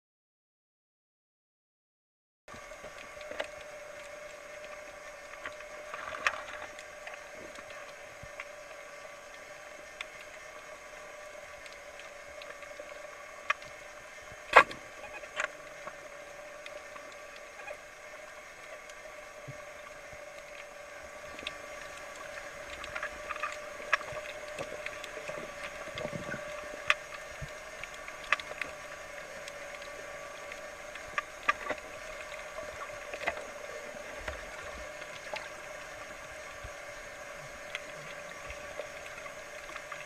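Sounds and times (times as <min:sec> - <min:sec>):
underwater clicks and crackles: 0:02.5 - 0:40.0
underwater hum: 0:02.5 - 0:40.0.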